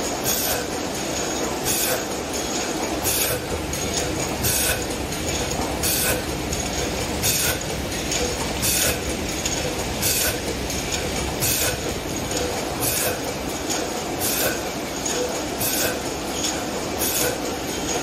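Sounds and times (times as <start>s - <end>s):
machine clattering: 0.0s - 18.0s.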